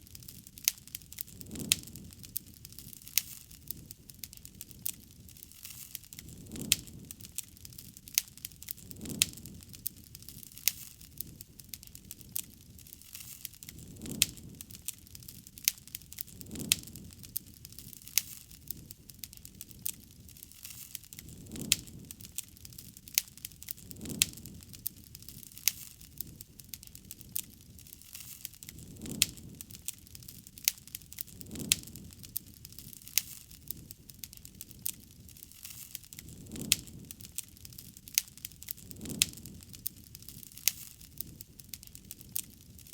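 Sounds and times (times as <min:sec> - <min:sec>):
flames puffing: 0:00.0 - 0:42.9
wood crackling and popping: 0:00.0 - 0:42.9.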